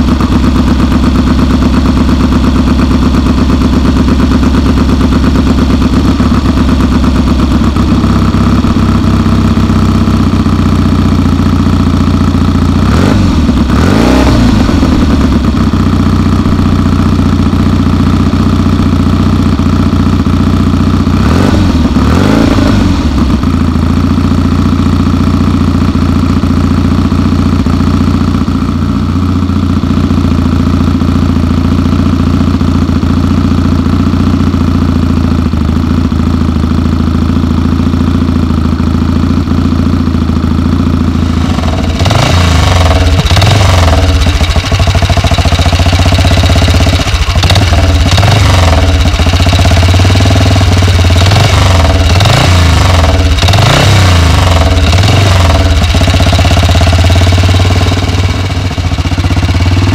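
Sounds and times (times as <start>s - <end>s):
motorcycle engine idling: 0.0s - 59.9s
motorcycle engine revving: 0.0s - 59.9s.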